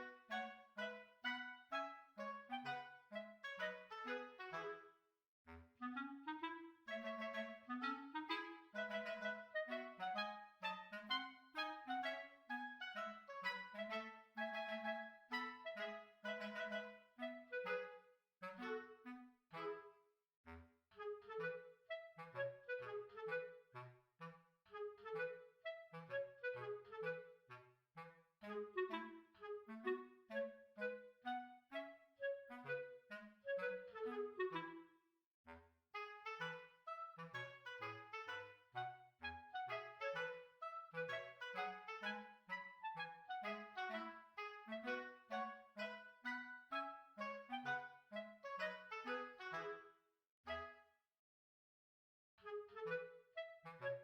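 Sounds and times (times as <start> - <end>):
bouncy clarinet tune: 0.0 - 34.9, 35.5 - 51.0, 52.4 - 54.0.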